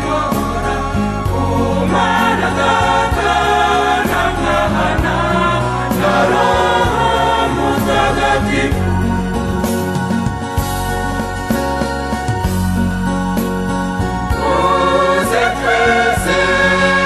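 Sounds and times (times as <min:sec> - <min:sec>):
choir singing a hymn: 0:00.0 - 0:11.9, 0:13.7 - 0:17.0
instrumental accompaniment with bass: 0:00.0 - 0:17.0.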